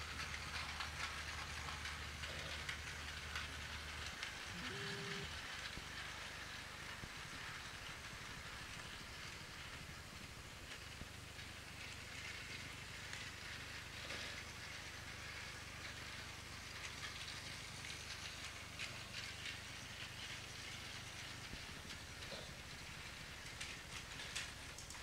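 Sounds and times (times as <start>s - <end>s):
toy train motor whirring: 0.0s - 25.0s
wheels clicking over track joints: 0.0s - 25.0s.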